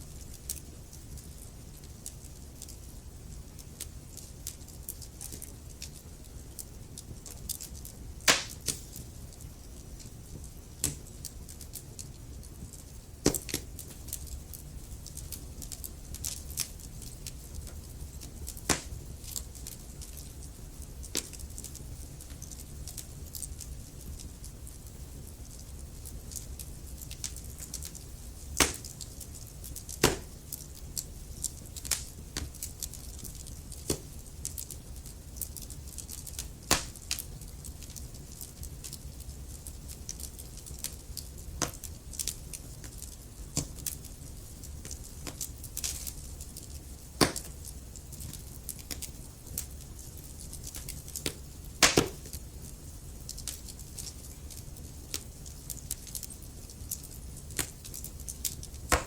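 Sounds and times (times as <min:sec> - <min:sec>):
fire crackling and popping: 0:00.0 - 0:59.0
fire rumbling in fireplace: 0:00.1 - 0:59.0.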